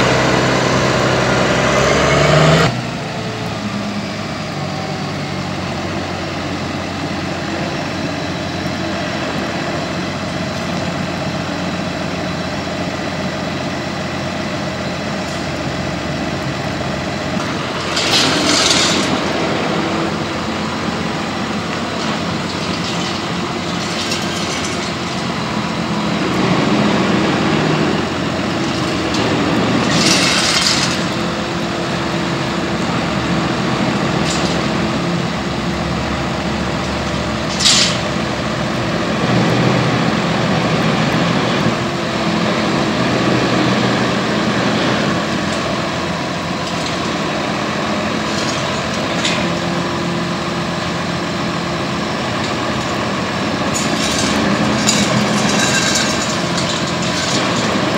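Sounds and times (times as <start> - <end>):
heavy vehicle engines running: 0.0 - 57.9.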